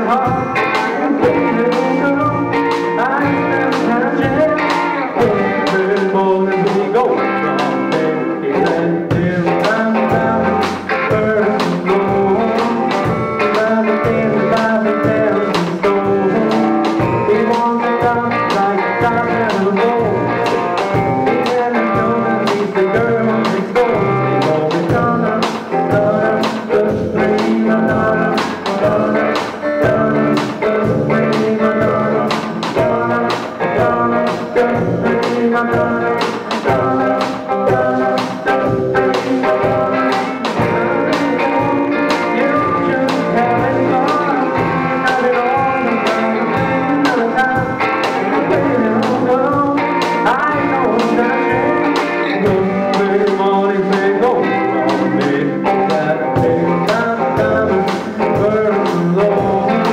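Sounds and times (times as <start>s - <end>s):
electric guitar: 0.0s - 59.9s
steady drum beat: 0.0s - 59.9s.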